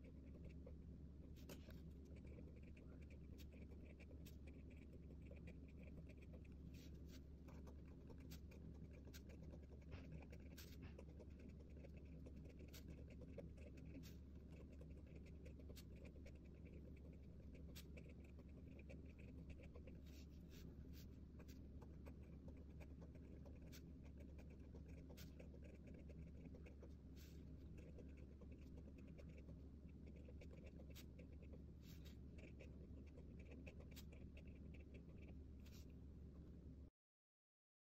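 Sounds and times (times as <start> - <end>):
pen scratching on paper: 0.0 - 36.0
steady low hum: 0.0 - 36.9.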